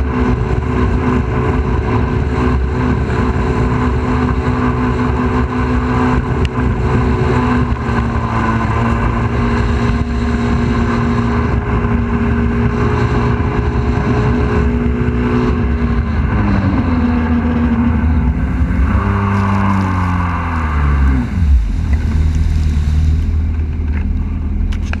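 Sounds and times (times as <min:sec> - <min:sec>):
jet ski engine running: 0:00.0 - 0:25.0
water rushing against hull: 0:00.0 - 0:25.0.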